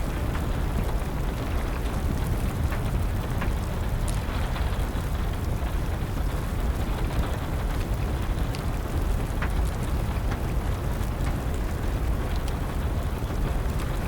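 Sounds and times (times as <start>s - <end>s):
rain rushing: 0.0s - 14.0s
wood fire crackling: 0.0s - 14.0s.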